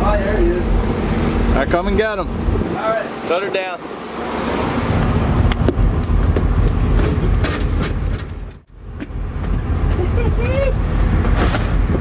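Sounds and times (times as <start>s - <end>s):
wind buffeting microphone: 0.0s - 3.2s, 3.8s - 12.0s
boat engine rumble: 0.0s - 12.0s.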